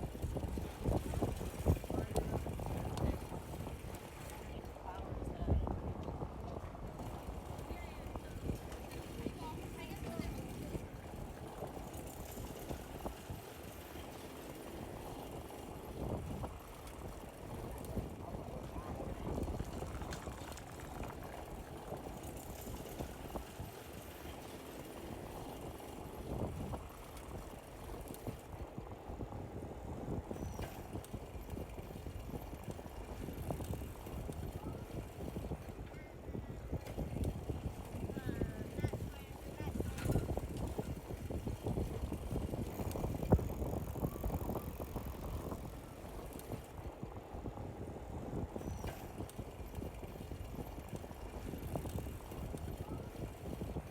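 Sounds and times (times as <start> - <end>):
bicycle rolling on pavement: 0.0 - 53.9
bike rattling: 0.0 - 53.9
wind on microphone: 0.0 - 53.9.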